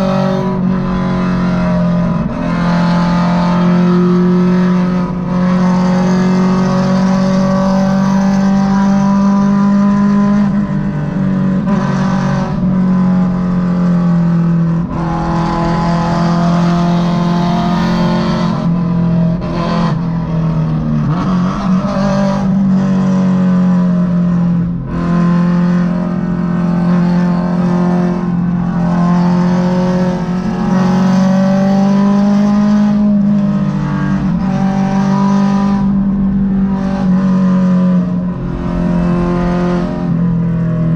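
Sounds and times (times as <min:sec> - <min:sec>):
car engine drone: 0:00.0 - 0:40.9
road and wind noise: 0:00.0 - 0:40.9.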